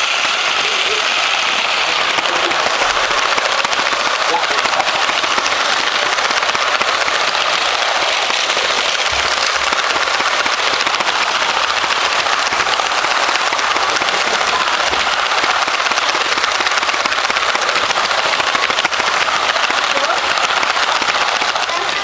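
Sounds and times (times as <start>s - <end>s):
toy train rattling on plastic track: 0.0s - 22.0s.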